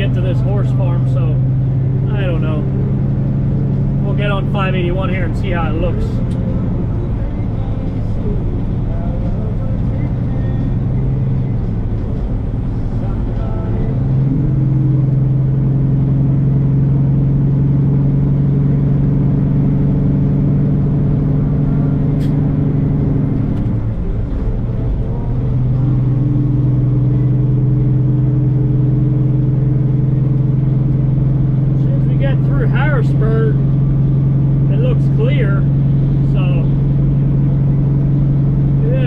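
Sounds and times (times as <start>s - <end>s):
truck diesel engine droning: 0.0s - 39.0s.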